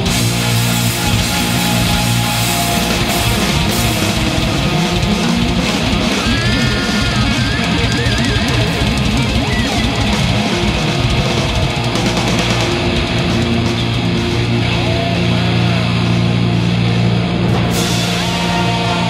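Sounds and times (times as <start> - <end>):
high wavering guitar lead: 0.0 - 19.0
rock music with electric guitar: 0.0 - 19.0.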